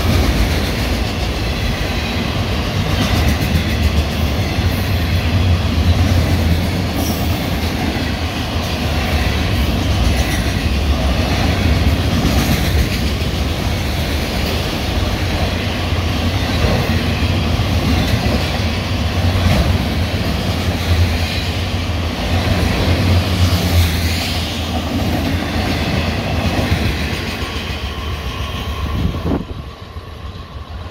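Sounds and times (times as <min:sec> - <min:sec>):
clickety-clack over rail joints: 0:00.0 - 0:29.6
freight train wheels rumbling: 0:00.0 - 0:30.9.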